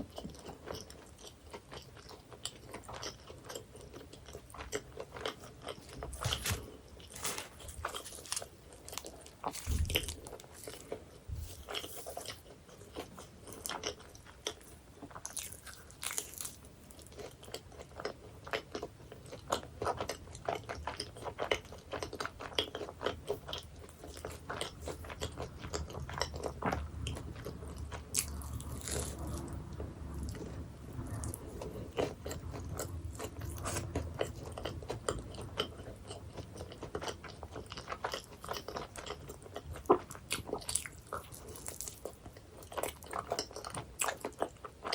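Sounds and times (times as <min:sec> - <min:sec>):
chewing crisp pastry: 0:00.0 - 0:44.9.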